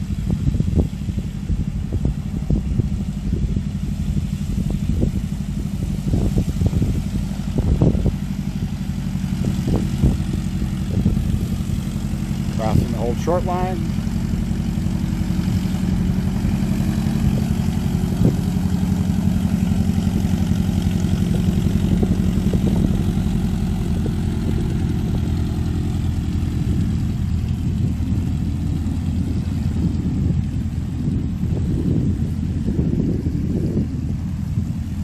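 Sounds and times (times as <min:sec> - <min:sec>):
propeller plane engine idling: 0:00.0 - 0:35.0.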